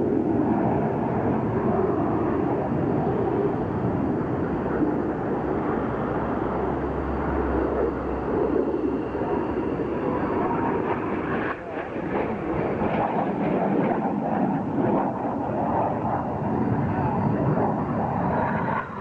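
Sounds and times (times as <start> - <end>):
jet flying past overhead: 0.0 - 19.0.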